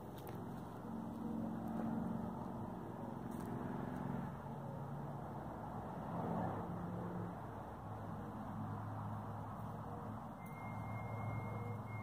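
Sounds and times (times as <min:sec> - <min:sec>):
vehicle engine rumbling: 0:00.0 - 0:06.0, 0:06.6 - 0:12.0.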